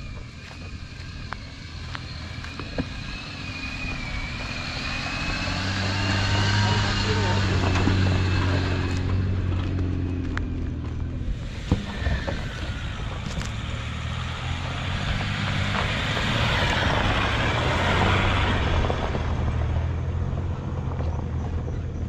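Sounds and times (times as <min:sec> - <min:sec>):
vehicle driving on gravel: 0:00.0 - 0:22.0.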